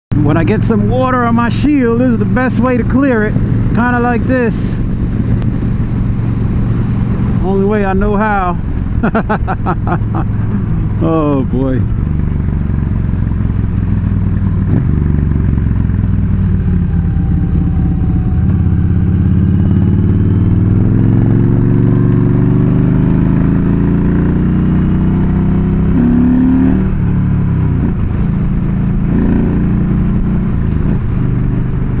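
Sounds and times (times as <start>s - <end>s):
motorcycle engine accelerating: 0.1s - 32.0s.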